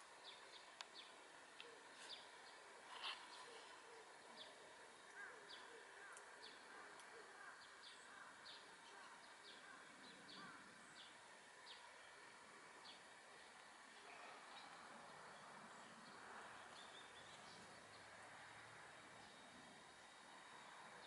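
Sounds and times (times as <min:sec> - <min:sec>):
light steady hiss: 0:00.0 - 0:21.0
small birds chirping: 0:00.0 - 0:21.0.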